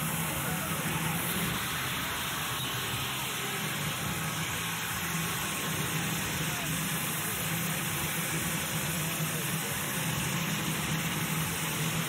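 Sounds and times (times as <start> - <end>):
indistinct crowd voices and shouts: 0.0 - 12.0
rushing hiss: 0.0 - 12.0.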